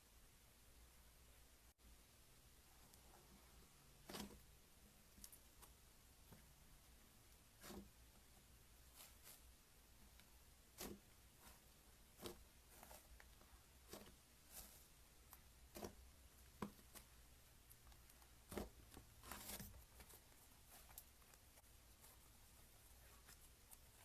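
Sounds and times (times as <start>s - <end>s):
slime handled by hand: 2.9s - 6.6s, 7.2s - 24.0s.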